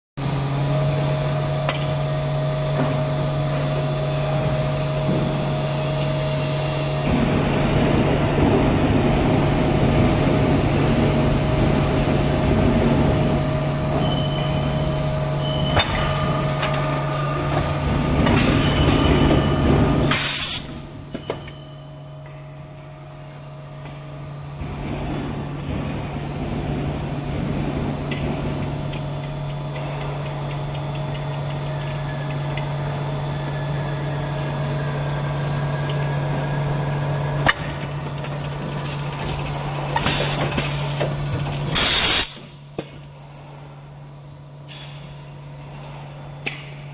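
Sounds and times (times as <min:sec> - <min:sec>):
blow molding machine running: 0:00.2 - 0:46.9.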